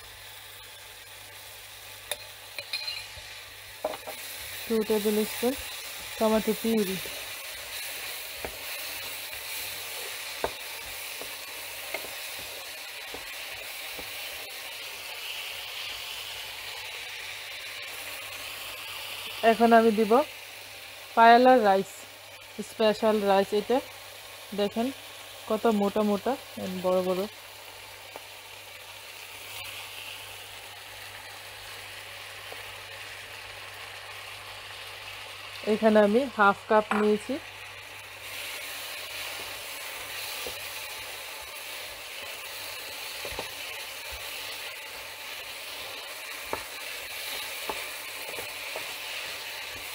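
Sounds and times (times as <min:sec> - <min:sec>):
vegetables sizzling in a frying pan: 0:00.0 - 0:49.9.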